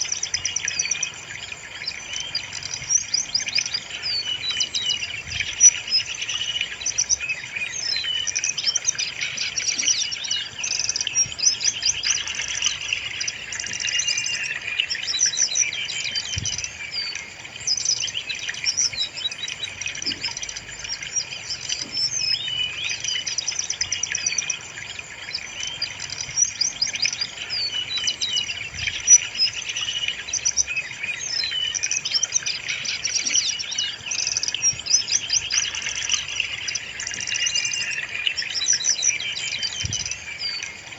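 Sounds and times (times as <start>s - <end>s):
flycatcher song: 0.0s - 40.9s.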